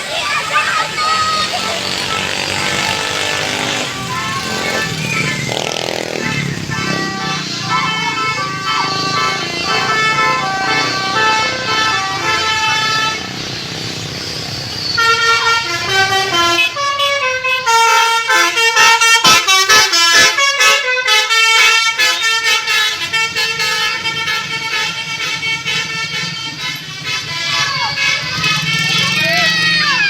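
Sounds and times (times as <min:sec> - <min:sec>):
multi-tone bus air horn melody: 0:00.0 - 0:14.0, 0:14.6 - 0:30.0
traffic noise: 0:00.0 - 0:30.0.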